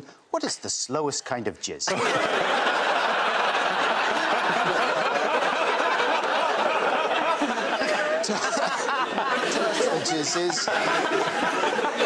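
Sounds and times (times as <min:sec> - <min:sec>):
studio audience laughing: 0:01.9 - 0:12.0.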